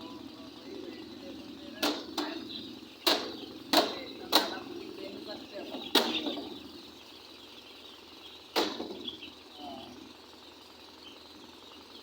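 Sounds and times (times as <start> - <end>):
chickens murmuring: 0.0 - 12.0
chicks chirping: 0.0 - 12.0.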